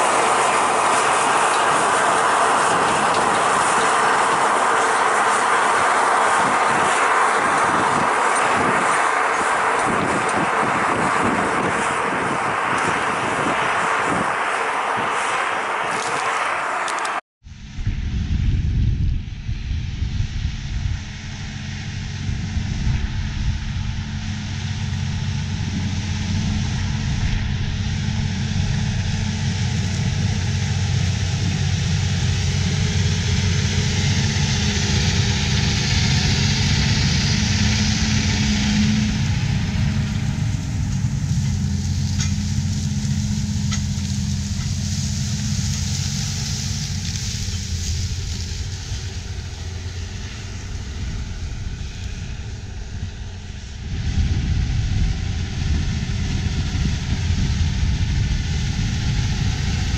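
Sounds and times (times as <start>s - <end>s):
tractor diesel engine under load: 0.0s - 17.2s, 20.3s - 59.9s.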